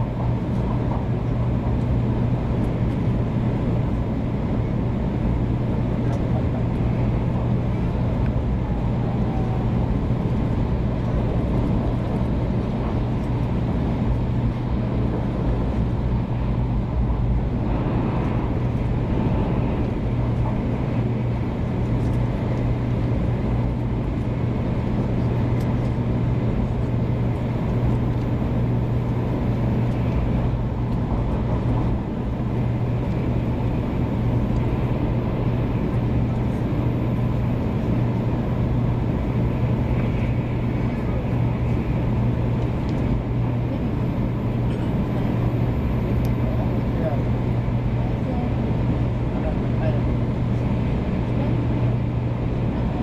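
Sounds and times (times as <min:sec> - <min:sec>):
train interior rumble: 0:00.0 - 0:53.0.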